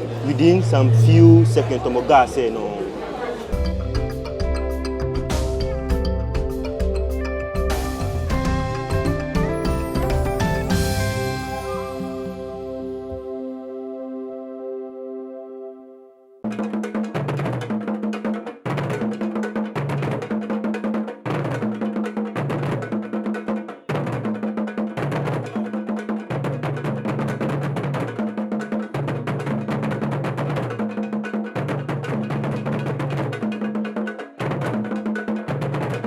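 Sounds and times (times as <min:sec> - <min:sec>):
music with drum beat and bass: 0:03.5 - 0:13.2, 0:16.5 - 0:36.0.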